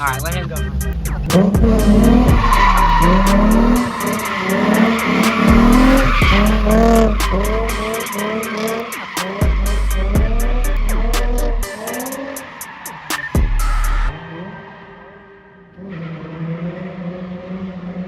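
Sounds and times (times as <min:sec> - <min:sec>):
car engine revving: 0:00.0 - 0:18.0
tires squealing: 0:00.0 - 0:18.0.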